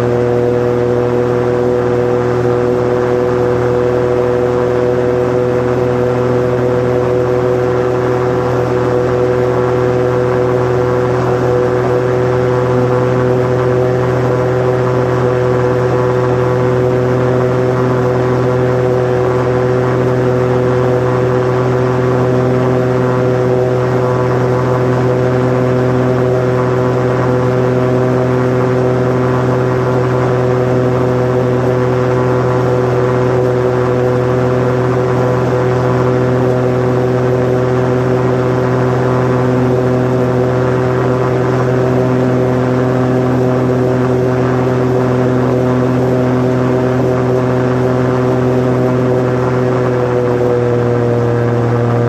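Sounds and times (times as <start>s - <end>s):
propeller plane engine drone: 0.0s - 52.0s.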